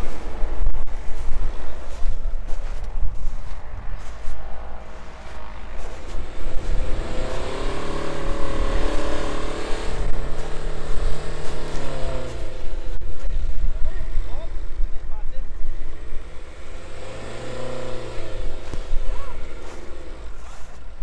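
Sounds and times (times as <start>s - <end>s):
car engine revving: 0.0s - 21.0s
low rumble: 0.0s - 21.0s.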